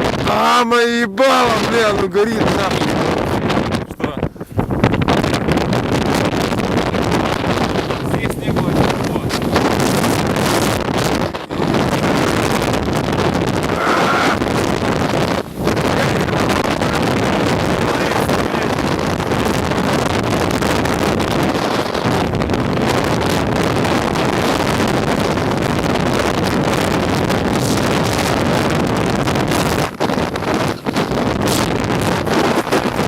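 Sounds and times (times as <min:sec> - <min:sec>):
strong wind buffeting microphone: 0:00.0 - 0:33.0.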